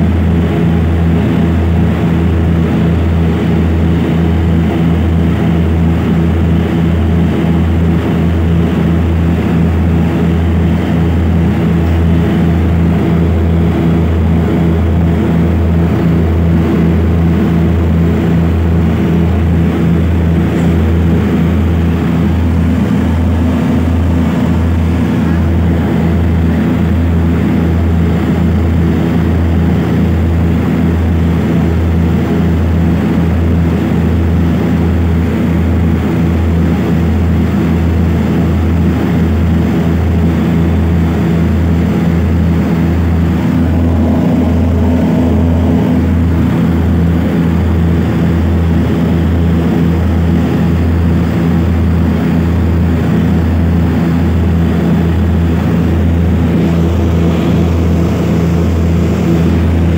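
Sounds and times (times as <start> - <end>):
propeller aircraft engines droning: 0.0 - 59.9.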